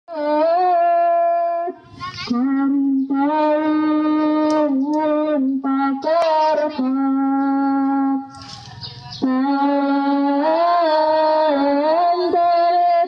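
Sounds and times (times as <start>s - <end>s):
high voice singing slow notes: 0.1s - 8.4s, 9.2s - 13.0s.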